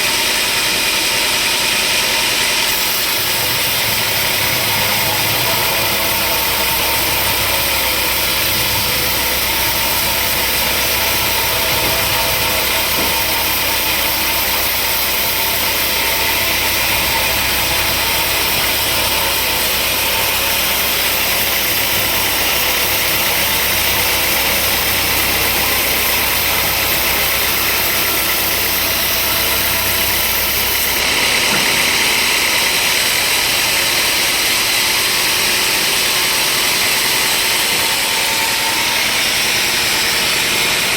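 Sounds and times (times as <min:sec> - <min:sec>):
bright hissy machine noise: 0:00.0 - 0:40.9
sawmill machinery drone: 0:00.0 - 0:40.9.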